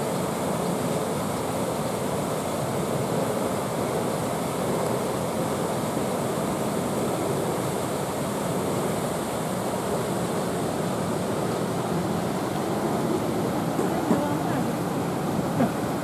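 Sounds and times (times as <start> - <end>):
water rushing over cascade: 0.0 - 16.0.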